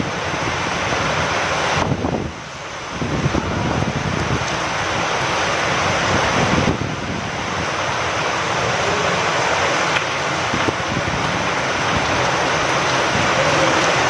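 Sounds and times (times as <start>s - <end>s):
rain falling: 0.0s - 14.0s
wind: 0.0s - 14.0s.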